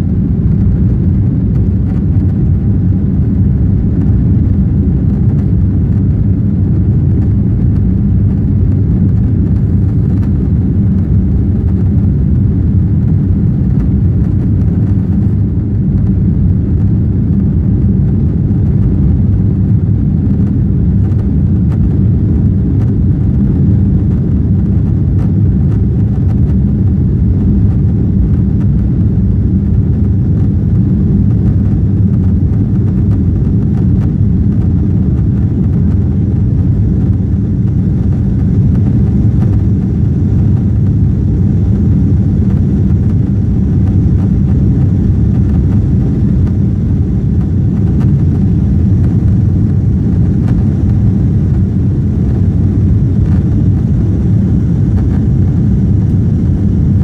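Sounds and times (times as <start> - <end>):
jet cabin engine rumble: 0.0 - 57.0.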